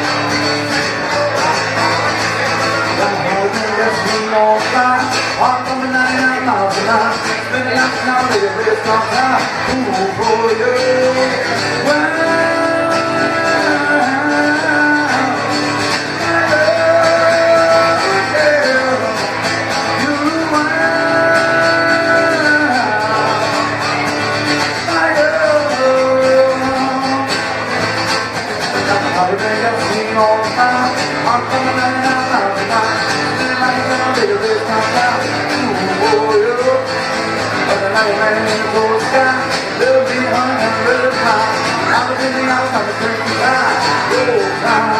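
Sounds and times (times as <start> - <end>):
country song with guitar: 0.0 - 44.9.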